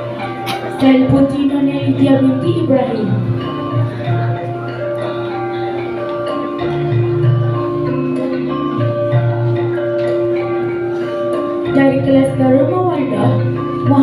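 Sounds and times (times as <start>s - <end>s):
instrumental background music: 0.0s - 14.0s.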